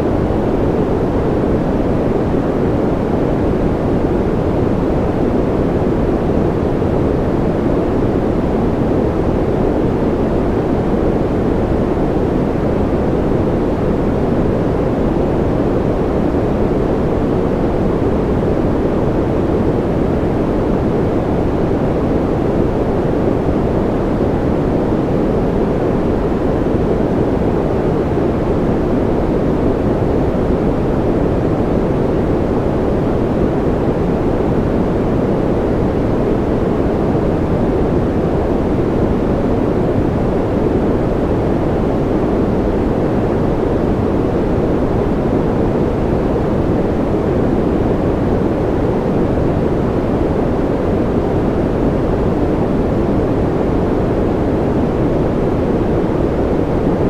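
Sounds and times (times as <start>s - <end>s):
deep white noise rush: 0.0s - 57.0s.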